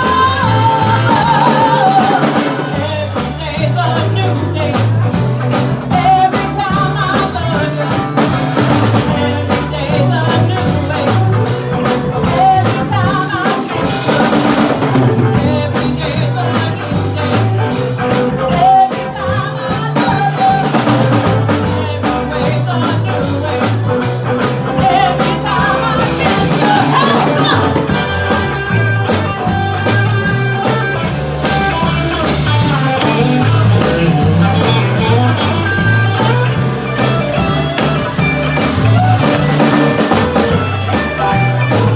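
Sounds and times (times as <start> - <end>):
drum kit steady beat: 0.0 - 41.9
live band playing: 0.0 - 41.9
low bass line: 0.0 - 41.9.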